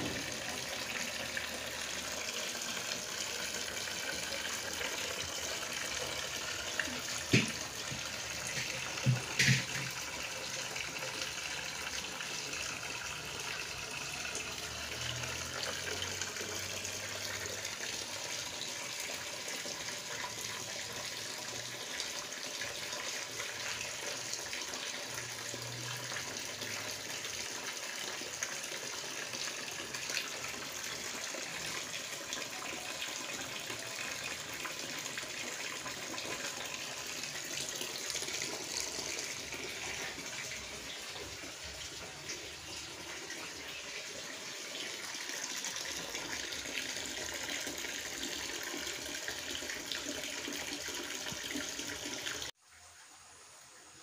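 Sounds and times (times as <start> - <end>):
liquid pouring into a bucket: 0.0 - 52.5.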